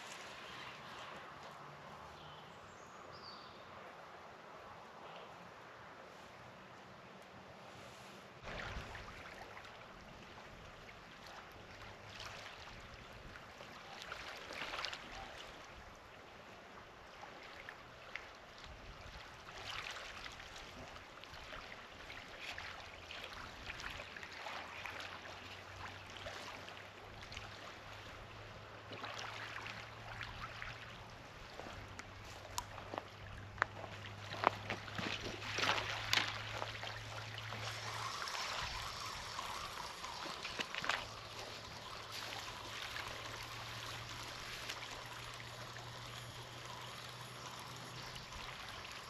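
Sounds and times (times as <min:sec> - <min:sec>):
waves lapping against rocks: 0:07.8 - 0:49.0.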